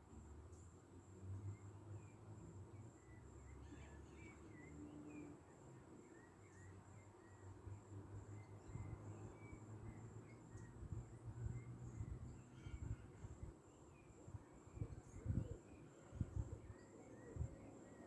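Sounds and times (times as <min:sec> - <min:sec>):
soft bird chirps: 0:02.8 - 0:18.0.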